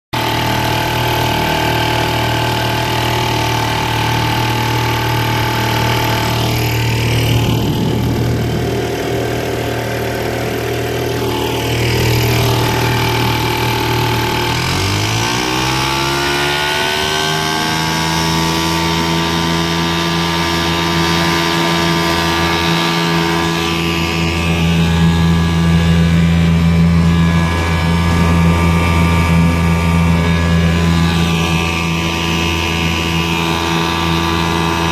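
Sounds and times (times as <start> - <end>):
two-stroke outboard motor running: 0.1 - 34.9.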